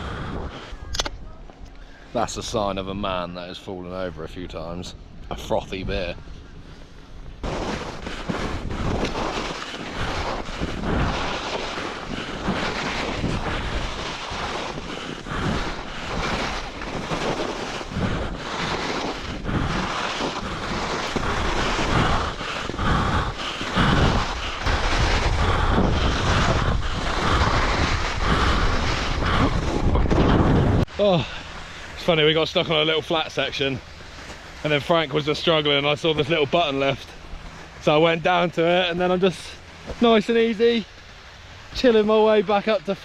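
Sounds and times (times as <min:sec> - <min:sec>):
wind buffeting microphone: 0:00.0 - 0:03.3, 0:04.0 - 0:42.6.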